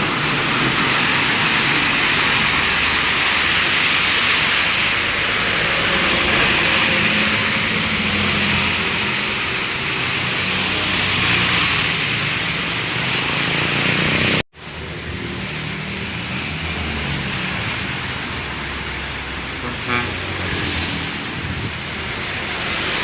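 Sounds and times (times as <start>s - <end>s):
heavy vehicle engines droning: 0.0s - 23.0s
rain: 0.0s - 23.0s
tyres hissing on wet asphalt: 0.0s - 23.0s.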